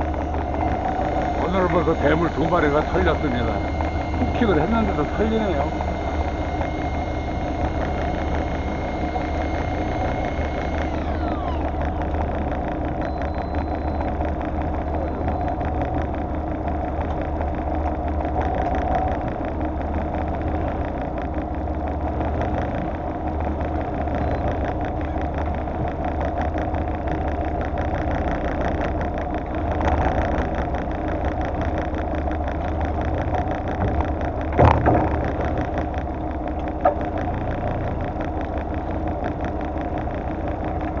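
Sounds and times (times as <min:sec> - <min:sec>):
boat engine idling: 0:00.0 - 0:41.0
thin high whine: 0:00.0 - 0:41.0.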